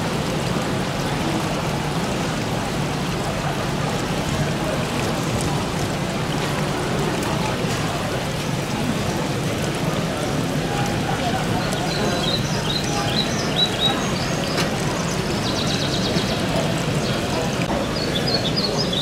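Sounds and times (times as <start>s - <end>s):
crowd hubbub in a hall: 0.0s - 19.0s.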